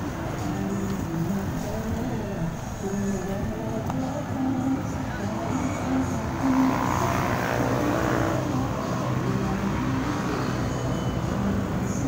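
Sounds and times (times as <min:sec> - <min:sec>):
motorcycle engines passing: 0:00.0 - 0:12.0.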